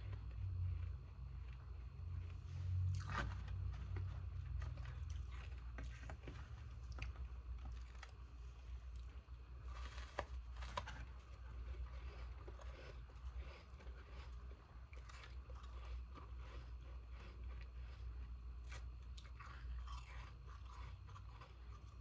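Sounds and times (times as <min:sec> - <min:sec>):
ice crunching while chewed: 0:00.0 - 0:22.0.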